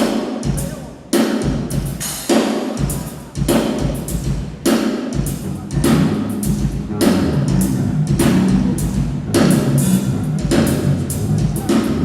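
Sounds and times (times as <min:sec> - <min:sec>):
tom and bass drum strokes: 0:00.0 - 0:12.0.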